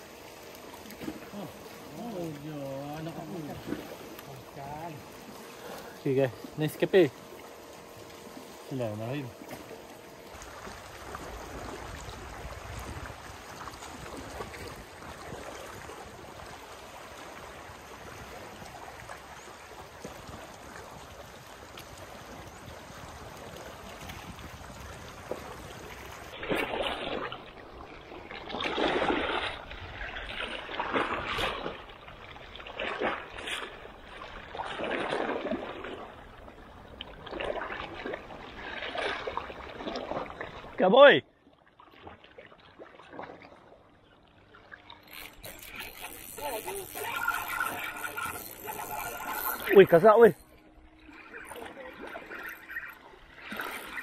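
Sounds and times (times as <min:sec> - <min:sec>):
waves splashing: 0:00.0 - 0:41.2, 0:44.6 - 0:54.0
steady wash of sea water: 0:00.0 - 0:54.0.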